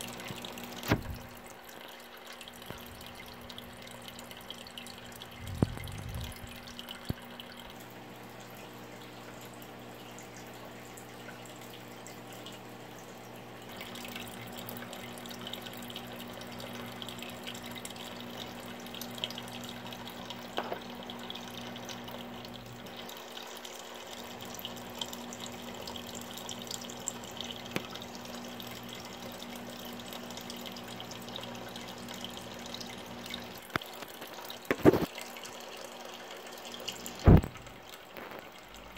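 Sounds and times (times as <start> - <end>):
filter pump hum: 0.0 - 38.9
water trickling and splashing: 0.0 - 38.9.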